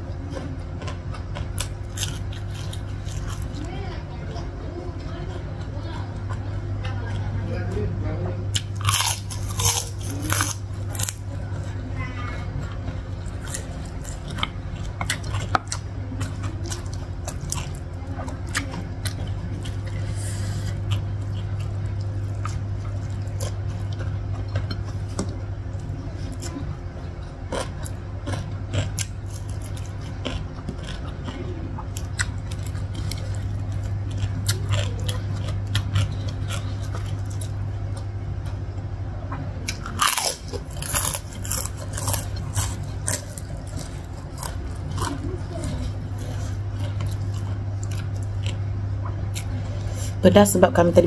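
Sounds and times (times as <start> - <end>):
person chewing soft food: 0.0 - 50.2
low steady hum: 0.0 - 51.0.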